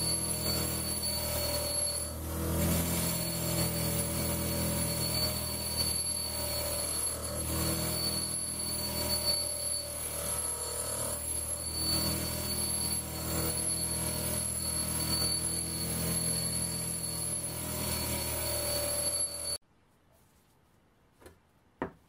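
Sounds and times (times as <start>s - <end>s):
bench grinder with wire wheel: 0.0s - 19.6s.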